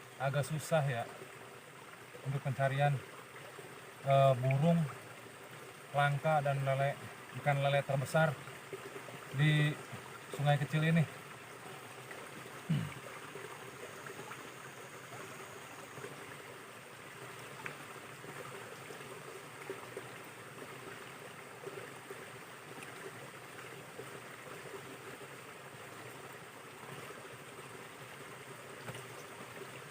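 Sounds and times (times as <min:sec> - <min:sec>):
small river flowing: 0:00.0 - 0:29.9.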